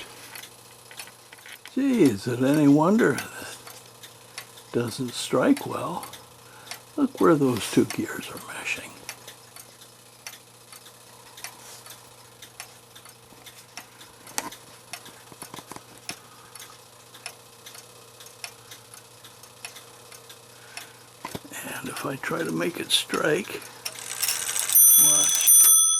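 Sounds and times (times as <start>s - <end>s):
clock movement clicks and ticks: 0.4s - 20.9s, 21.7s - 25.9s.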